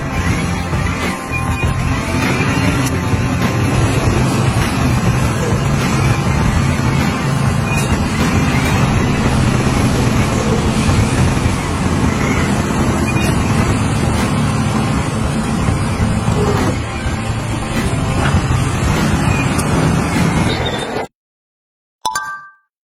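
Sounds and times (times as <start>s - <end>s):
heavy diesel engine rumbling: 0.0s - 20.8s.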